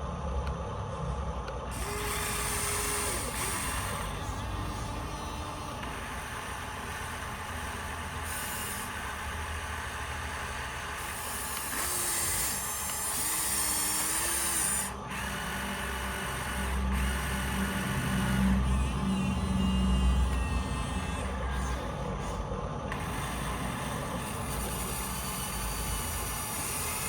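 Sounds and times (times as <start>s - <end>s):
toy vehicle motors whirring: 1.6s - 27.0s.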